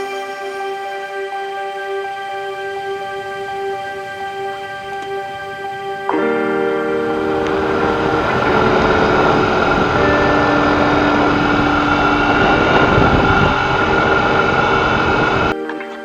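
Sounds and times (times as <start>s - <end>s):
background music: 0.0s - 16.0s
vehicle road and wind noise: 2.2s - 15.6s.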